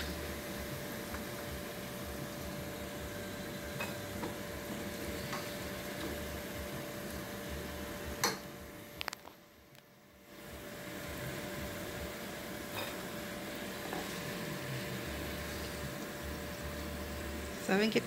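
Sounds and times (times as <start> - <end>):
potatoes sizzling in oil: 0.0 - 9.0, 10.2 - 18.0.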